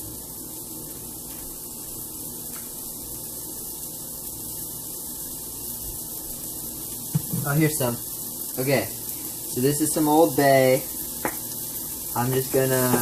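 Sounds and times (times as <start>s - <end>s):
food frying in butter: 0.0s - 13.0s.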